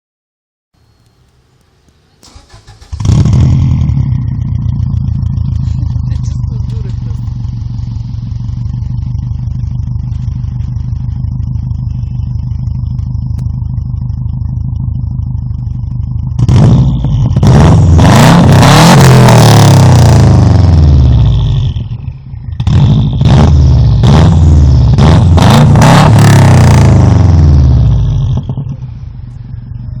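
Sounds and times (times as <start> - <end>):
car engine idling and revving: 0.8 - 30.0.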